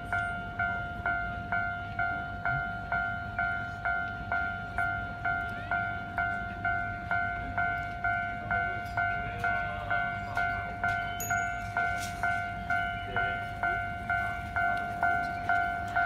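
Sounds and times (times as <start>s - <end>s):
level crossing alarm ringing: 0.0s - 16.0s.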